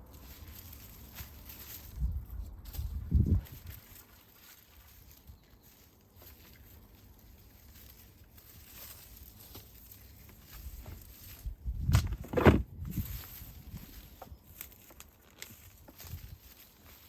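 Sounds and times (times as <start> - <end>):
rustling and knocks in dry soil: 0.0 - 17.0.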